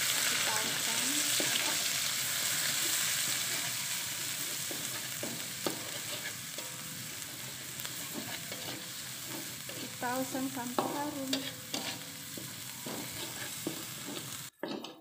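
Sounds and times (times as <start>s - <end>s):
food sizzling in hot oil: 0.0s - 15.0s
metal spatula scraping a pan: 0.1s - 15.0s.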